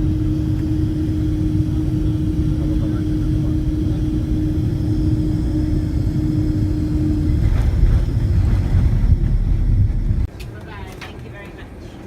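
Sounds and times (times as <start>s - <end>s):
steady hum: 0.0s - 10.4s
airliner cabin rumble: 0.0s - 12.0s.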